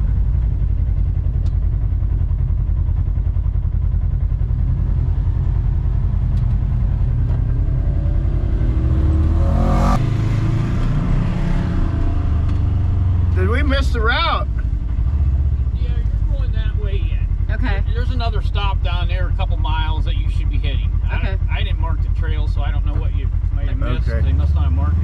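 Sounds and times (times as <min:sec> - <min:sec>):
engine rumbling and revving: 0:00.0 - 0:25.0.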